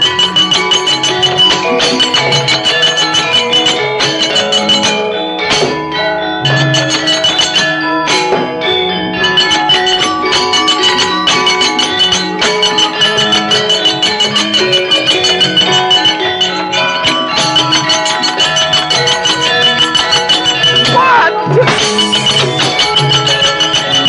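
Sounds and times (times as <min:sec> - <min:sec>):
gamelan ensemble playing: 0:00.0 - 0:24.0.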